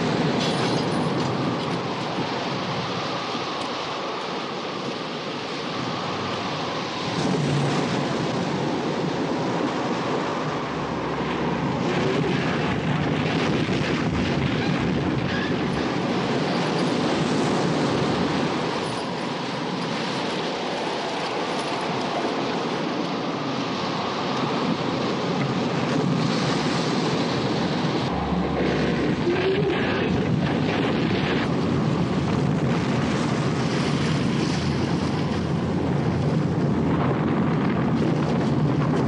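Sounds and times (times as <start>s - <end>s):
storm wind: 0.0s - 39.0s
waves breaking over deck: 0.0s - 39.0s.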